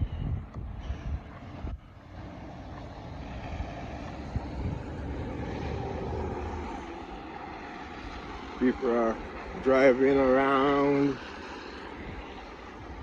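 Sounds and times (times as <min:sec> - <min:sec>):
car passing on snow: 0:00.8 - 0:13.0.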